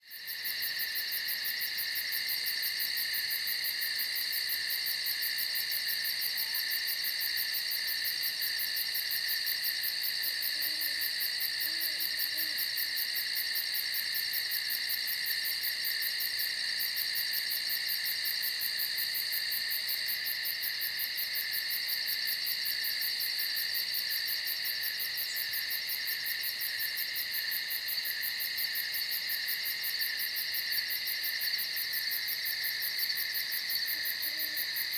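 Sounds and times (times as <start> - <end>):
crickets and insects chirping: 0.0 - 34.9.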